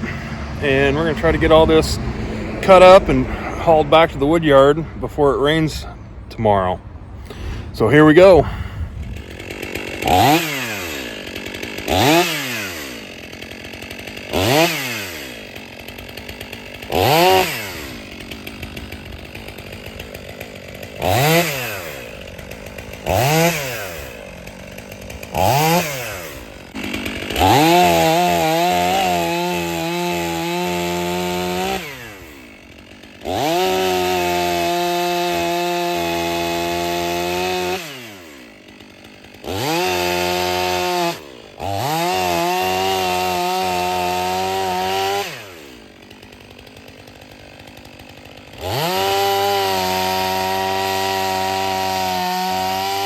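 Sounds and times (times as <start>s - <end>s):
chainsaw idling and revving: 0.0s - 53.0s.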